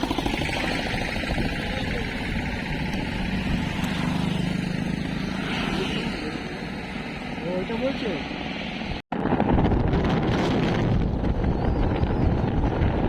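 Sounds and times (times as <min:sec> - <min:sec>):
motorcycle engine hum: 0:00.0 - 0:13.0
road and wind noise: 0:00.0 - 0:13.0.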